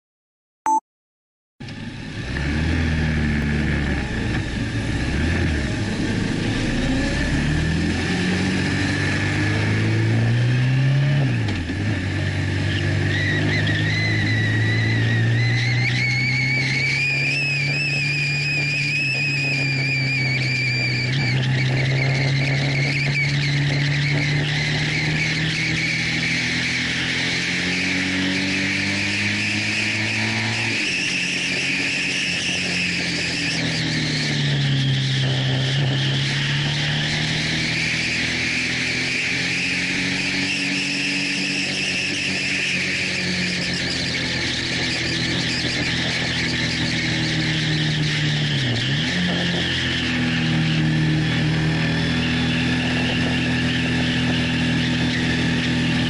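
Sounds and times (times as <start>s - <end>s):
motorcycle engine revving: 1.6s - 56.0s.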